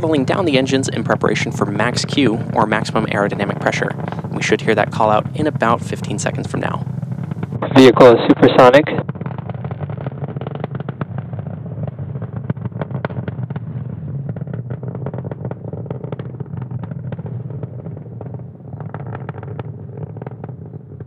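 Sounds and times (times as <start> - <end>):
rocket engines rumbling and crackling: 0.0 - 21.0.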